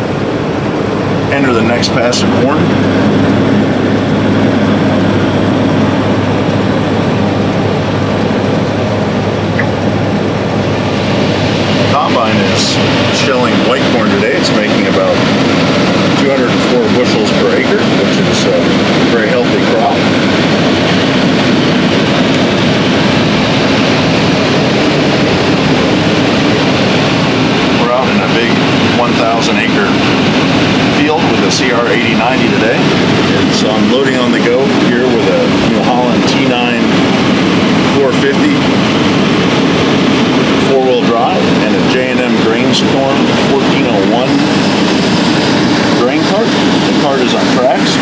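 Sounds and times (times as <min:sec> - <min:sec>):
combine harvester droning: 0:00.0 - 0:48.0.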